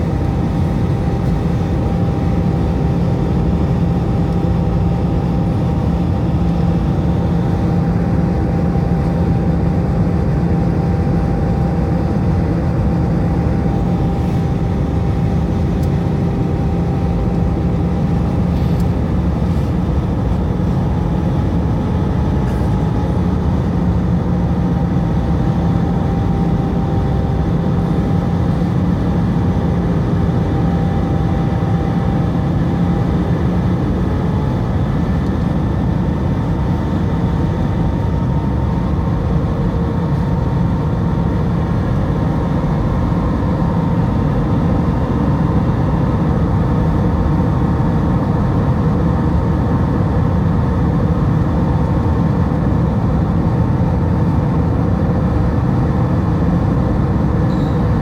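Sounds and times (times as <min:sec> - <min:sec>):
airflow rush in aircraft cabin: 0:00.0 - 0:58.0
faint engine whines: 0:00.0 - 0:58.0
low engine hum: 0:00.0 - 0:58.0.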